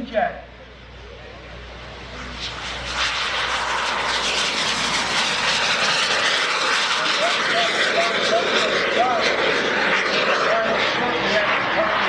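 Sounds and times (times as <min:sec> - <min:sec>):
small jet engine rushing hiss: 0:00.6 - 0:12.0.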